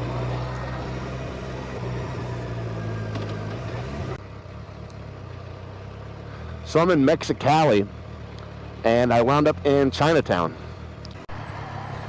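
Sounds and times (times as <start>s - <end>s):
motorcycle engine running: 0.0s - 11.2s
road noise: 0.0s - 12.0s.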